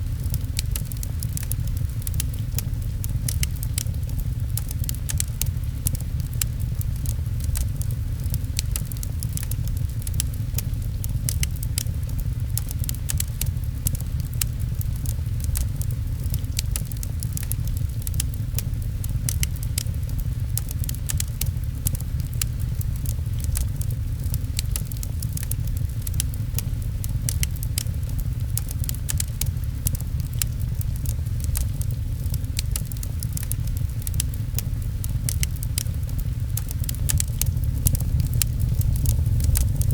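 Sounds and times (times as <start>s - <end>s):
fireplace crackling: 0.0s - 39.9s
steady low rumble: 0.0s - 39.9s
sharp pops and clicks: 0.1s - 39.9s.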